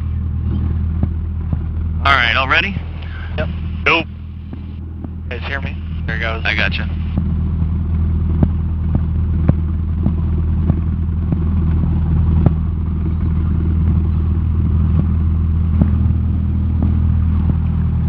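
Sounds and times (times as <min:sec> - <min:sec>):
aircraft engine droning: 0:00.0 - 0:18.0
sharp clicks and rattles: 0:00.0 - 0:18.0.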